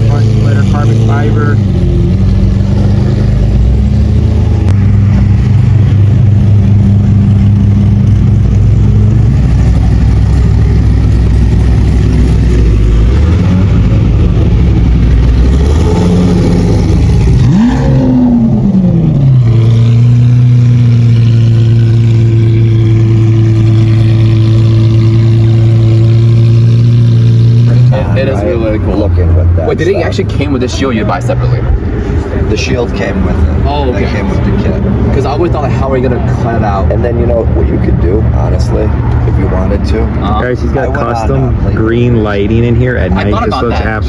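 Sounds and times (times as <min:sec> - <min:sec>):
car engines idling: 0:00.0 - 0:44.0.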